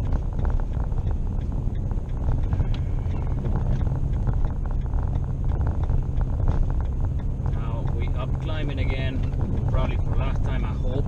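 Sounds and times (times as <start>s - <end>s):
light clicks and rattles: 0.0s - 11.0s
tyres on snowy road: 0.0s - 11.0s
vehicle engine rumble: 0.0s - 11.0s.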